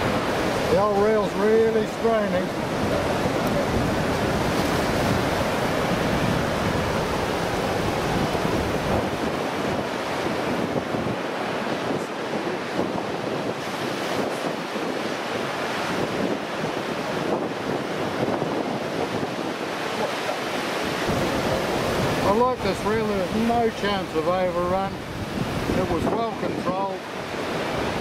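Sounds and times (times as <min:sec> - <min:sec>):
surf washing on beach: 0:00.0 - 0:28.0
wind buffeting microphone: 0:00.0 - 0:28.0.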